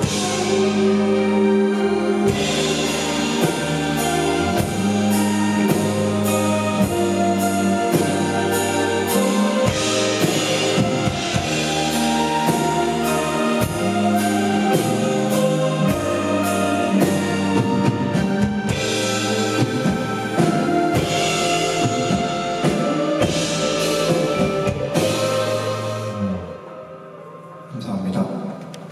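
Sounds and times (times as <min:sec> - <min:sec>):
guitar chords: 0:00.0 - 0:27.7
sustained bass notes: 0:00.0 - 0:28.9.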